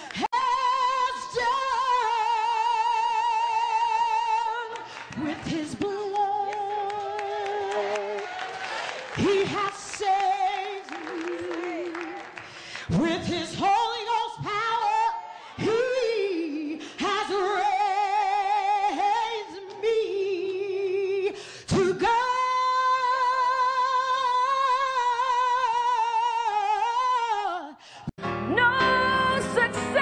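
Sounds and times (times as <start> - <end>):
woman singing a cappella: 0.0 - 8.3, 9.1 - 27.8, 28.5 - 30.0.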